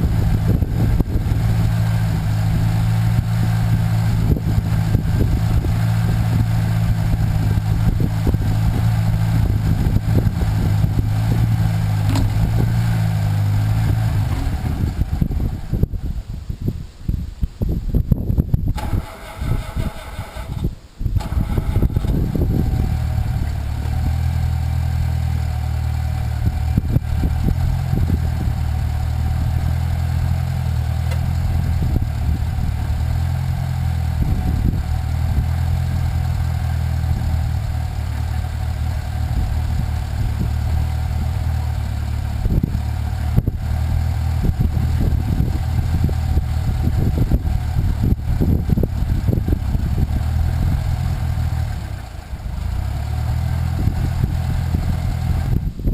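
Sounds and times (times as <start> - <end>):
engine low drone: 0.0 - 55.9.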